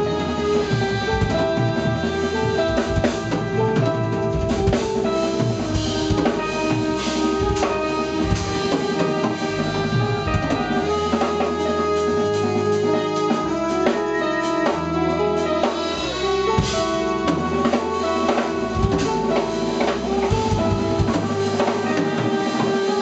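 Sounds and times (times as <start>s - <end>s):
band playing drums keyboards guitar: 0.0s - 23.0s
horns holding long notes: 0.0s - 23.0s.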